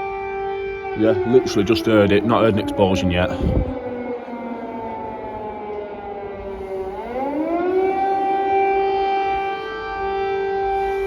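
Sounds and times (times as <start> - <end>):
air raid siren: 0.0 - 11.0.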